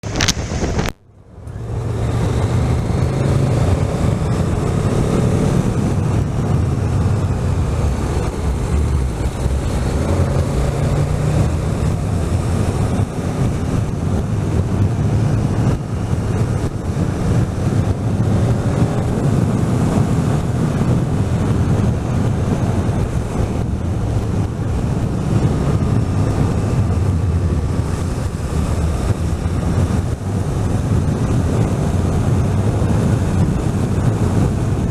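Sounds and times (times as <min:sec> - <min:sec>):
wind on microphone: 0:00.0 - 0:34.9
motorcycle engine running: 0:01.9 - 0:34.9.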